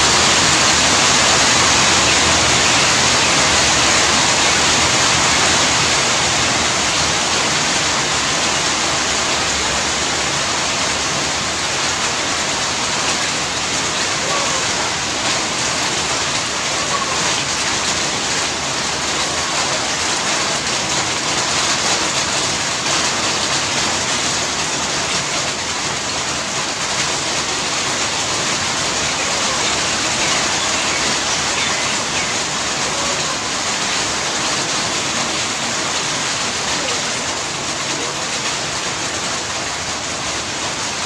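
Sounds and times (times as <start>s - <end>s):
rain splashing into puddle: 0.0s - 41.0s.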